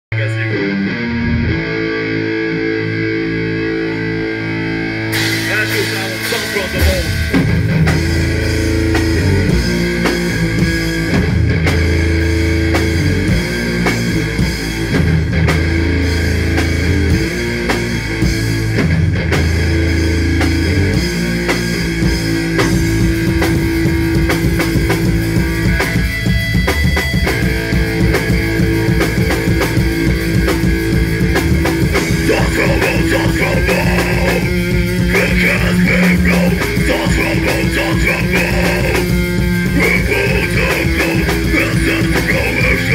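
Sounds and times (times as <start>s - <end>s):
rock band playing live: 0.1s - 42.9s.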